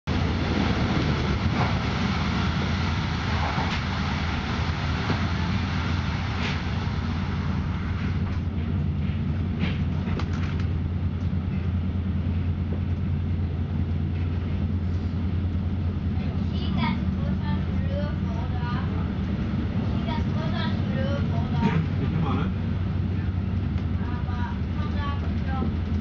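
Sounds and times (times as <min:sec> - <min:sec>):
train rumbling inside carriage: 0:00.0 - 0:26.0.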